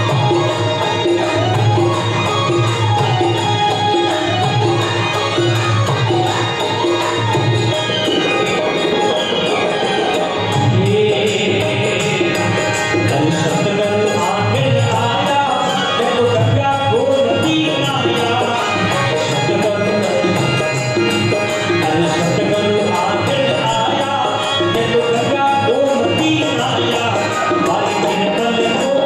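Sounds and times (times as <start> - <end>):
harmonium: 0.0 - 29.0
man singing devotional song: 0.0 - 29.0
percussion: 0.0 - 29.0.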